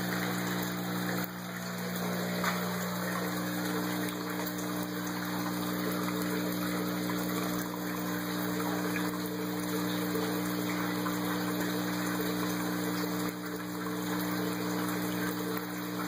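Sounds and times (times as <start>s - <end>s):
electric hum: 0.0s - 16.0s.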